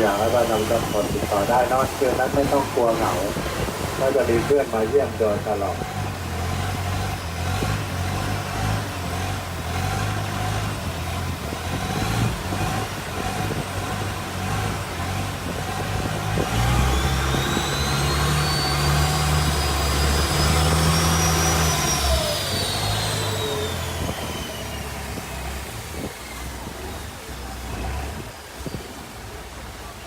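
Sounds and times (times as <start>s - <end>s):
high whine: 0.0s - 28.3s
boat engine running: 0.0s - 30.0s.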